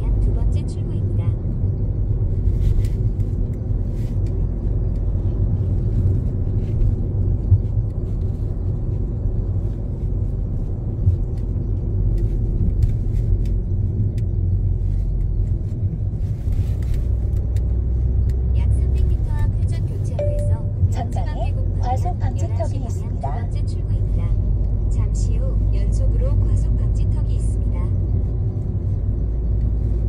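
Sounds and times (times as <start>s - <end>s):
car road noise rumble: 0.0s - 30.0s.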